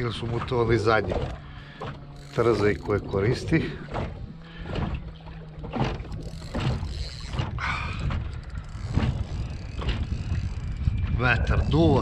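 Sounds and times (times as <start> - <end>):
water slapping against boat: 0.0 - 12.0
wind buffeting microphone: 2.4 - 12.0.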